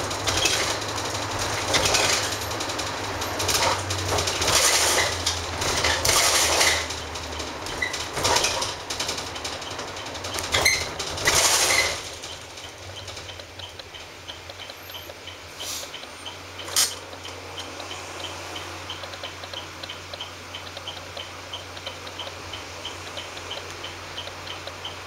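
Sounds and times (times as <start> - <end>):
bus engine hum: 0.0 - 25.0
turn signal ticking: 0.0 - 25.0.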